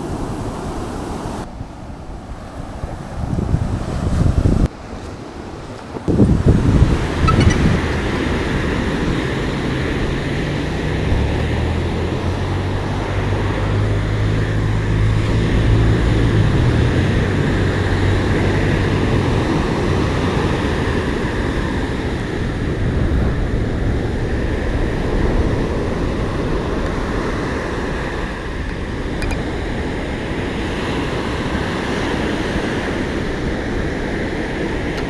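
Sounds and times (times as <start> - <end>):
rushing wind: 0.0 - 35.0.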